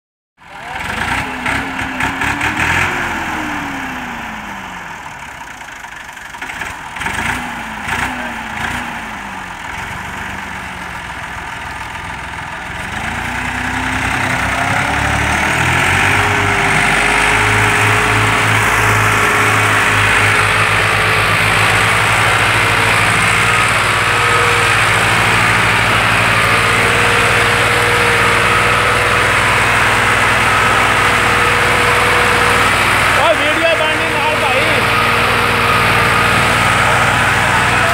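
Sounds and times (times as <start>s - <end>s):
tractor diesel engine revving: 0.4s - 37.9s.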